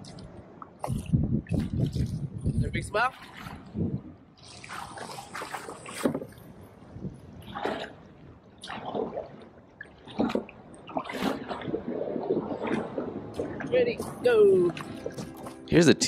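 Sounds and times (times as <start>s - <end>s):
paddle splashing in water: 0.6s - 15.9s.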